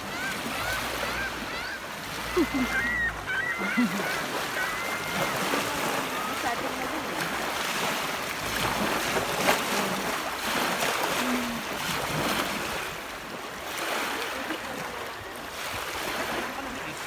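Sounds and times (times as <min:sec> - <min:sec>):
waves lapping on pebble shore: 0:00.0 - 0:17.0.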